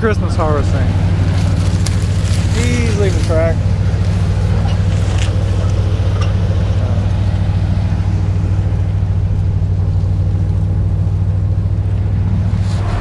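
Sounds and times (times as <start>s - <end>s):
farm machinery engine hum: 0.0s - 13.0s.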